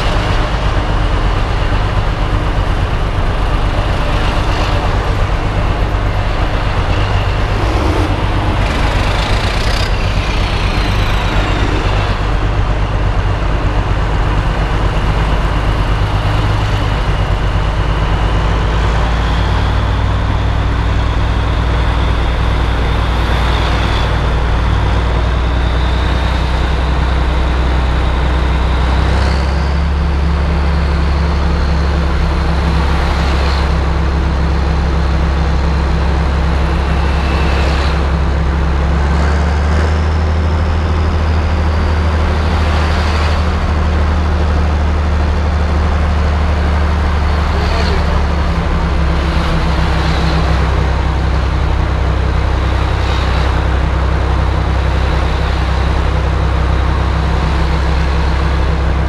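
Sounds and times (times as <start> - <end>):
high whine: 0.0 - 59.0
tractor engine running: 0.0 - 59.0.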